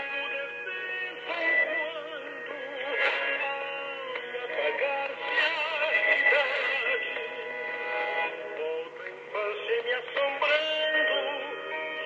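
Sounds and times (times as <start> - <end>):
radio music with singing: 0.0 - 12.0.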